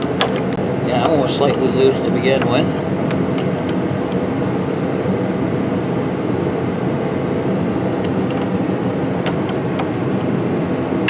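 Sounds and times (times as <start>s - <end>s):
machine drone with low hum: 0.0s - 11.0s.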